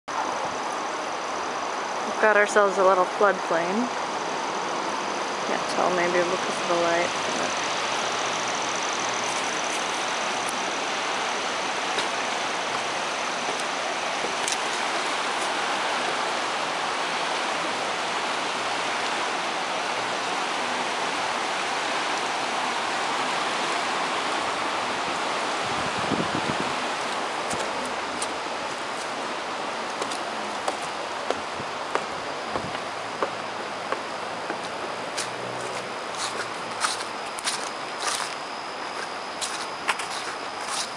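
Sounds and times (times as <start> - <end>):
floodwater rushing: 0.2 - 40.8.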